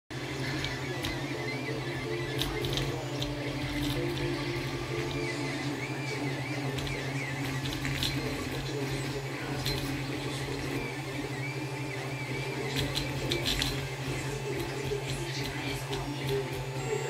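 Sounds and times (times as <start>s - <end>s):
cooling fans humming: 0.1s - 17.0s
stepper motor whine: 0.1s - 17.0s.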